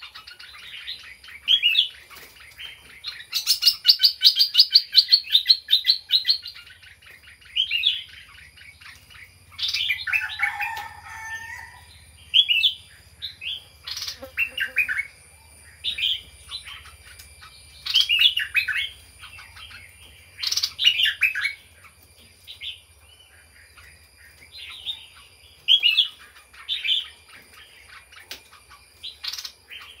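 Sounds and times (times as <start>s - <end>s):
songbird singing chirpy phrases: 0.0s - 30.0s.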